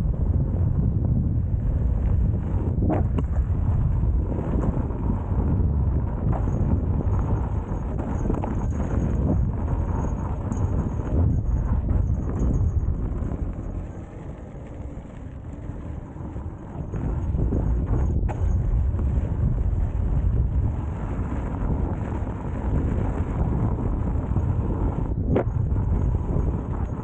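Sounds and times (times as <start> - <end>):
tyres rolling on dirt trail: 0.0 - 27.0
wind buffeting microphone: 0.0 - 27.0.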